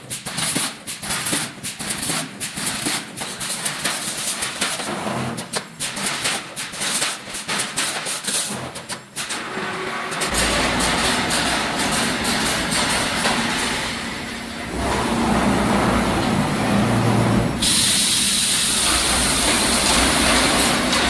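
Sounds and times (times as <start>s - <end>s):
welding machine clacking and rattling: 0.0s - 15.1s, 18.5s - 21.0s.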